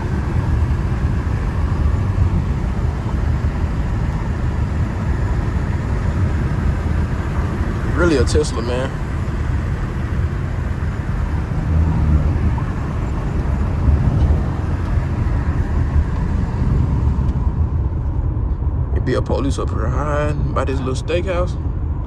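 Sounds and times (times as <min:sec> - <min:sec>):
car engine droning: 0:00.0 - 0:22.0
road noise: 0:00.0 - 0:22.0.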